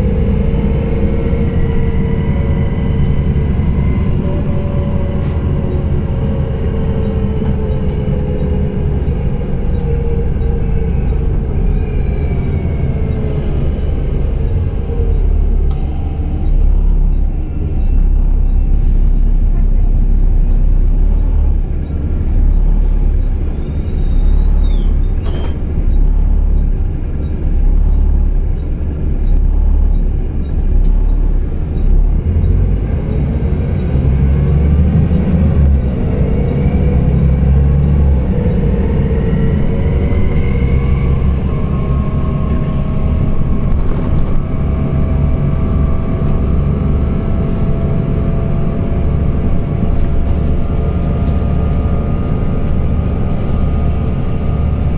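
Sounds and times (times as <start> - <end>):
bus engine rumble: 0.0 - 54.9.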